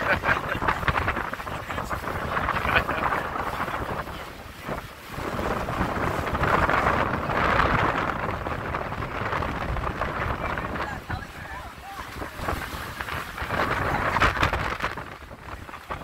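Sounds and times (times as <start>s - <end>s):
sea rushing along a hull: 0.0s - 16.0s
wind buffeting the microphone: 0.0s - 16.0s.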